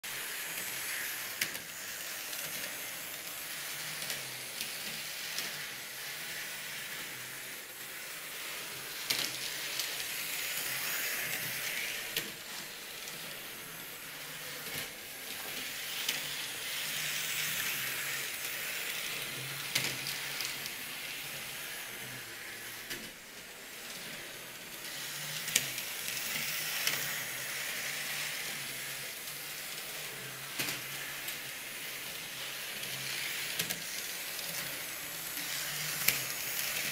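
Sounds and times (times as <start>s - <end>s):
model train motor whir and wheel rumble: 0.2s - 36.9s.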